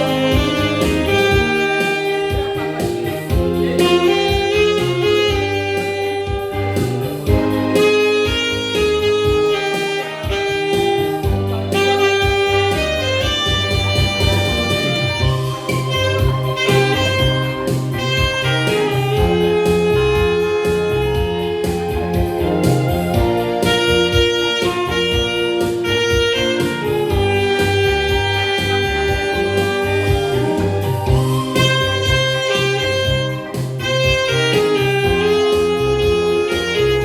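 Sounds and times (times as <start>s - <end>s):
saxophone melody: 0.0s - 37.0s
steady bass line: 0.0s - 37.0s.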